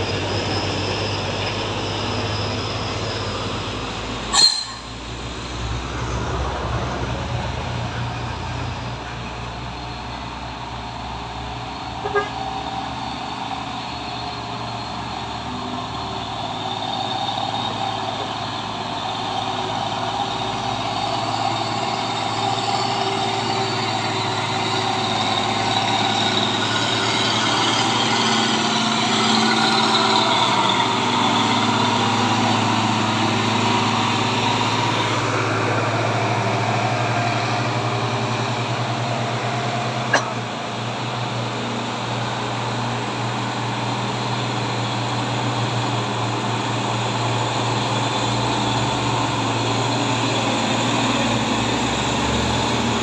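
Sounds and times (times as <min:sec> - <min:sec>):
diesel trucks pulling uphill: 0:00.0 - 0:53.0.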